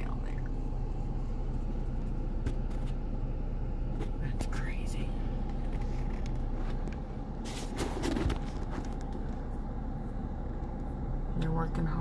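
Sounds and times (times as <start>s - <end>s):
car engine and cabin hum: 0.0s - 12.0s.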